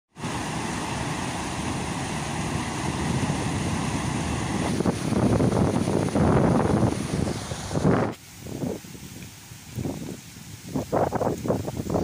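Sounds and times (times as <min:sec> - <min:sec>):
water rushing over a weir: 0:00.1 - 0:12.0.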